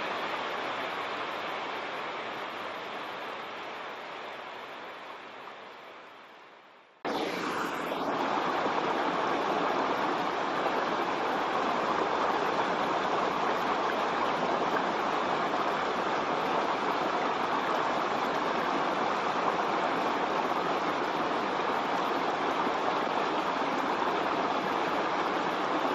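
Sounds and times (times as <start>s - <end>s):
waterfall rushing water: 0.0s - 6.1s, 7.1s - 25.9s.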